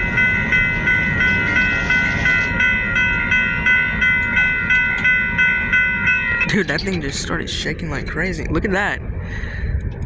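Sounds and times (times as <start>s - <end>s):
railroad crossing bell ringing: 0.0s - 8.4s
freight train rumbling past: 0.0s - 9.2s.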